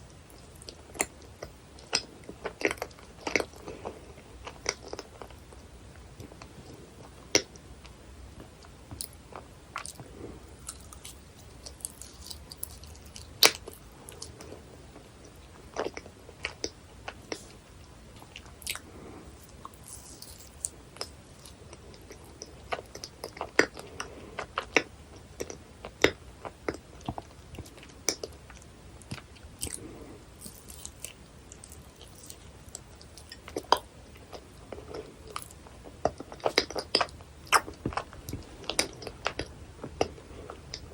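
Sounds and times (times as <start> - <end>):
close chewing mouth sounds: 0.0 - 40.9.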